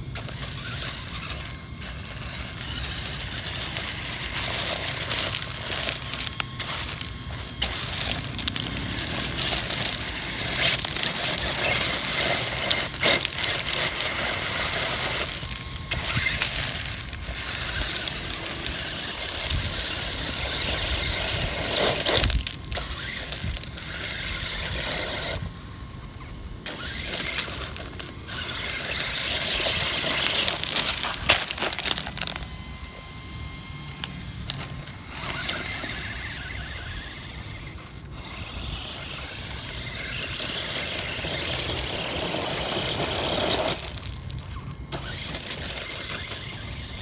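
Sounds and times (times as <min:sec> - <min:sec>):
electric motor and gears whining: 0:00.0 - 0:47.0
tyres scrabbling over stone: 0:00.0 - 0:47.0
rocks clattering: 0:00.2 - 0:25.6, 0:26.7 - 0:33.1, 0:33.9 - 0:47.0.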